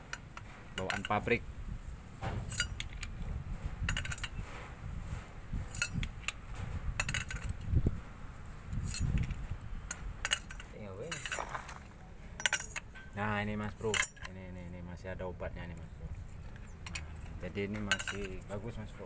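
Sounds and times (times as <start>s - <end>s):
tools and steel parts clanking: 0.0s - 1.5s, 2.2s - 7.9s, 8.7s - 14.6s, 15.8s - 18.8s
low steady rumble: 0.0s - 19.0s.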